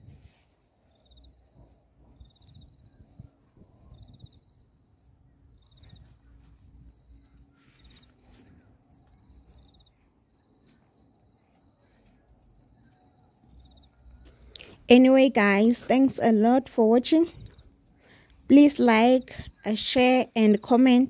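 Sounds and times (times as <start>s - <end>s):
hands rustling soil: 0.0s - 21.0s.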